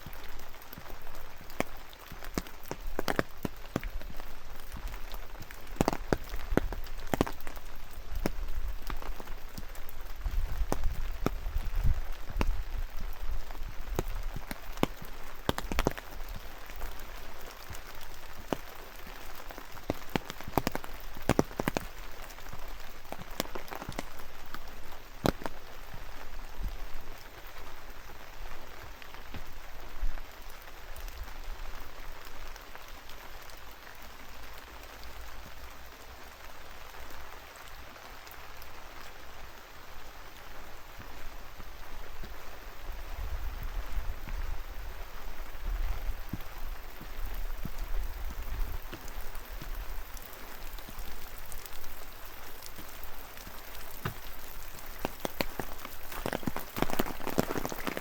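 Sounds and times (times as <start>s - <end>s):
raindrops tapping close by: 0.0s - 58.0s
steady rain falling: 0.0s - 58.0s.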